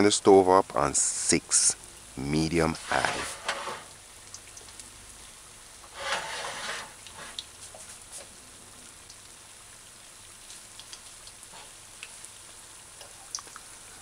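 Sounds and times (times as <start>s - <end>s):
fritters sizzling in oil: 1.0s - 14.0s
oil popping and crackling: 1.4s - 14.0s.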